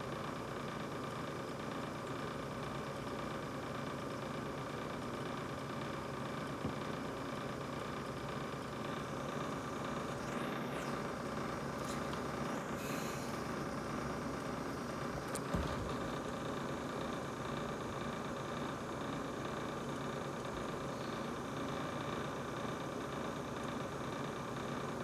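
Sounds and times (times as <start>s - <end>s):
refrigerator humming: 0.0s - 25.0s
refrigerator whine: 0.0s - 25.0s.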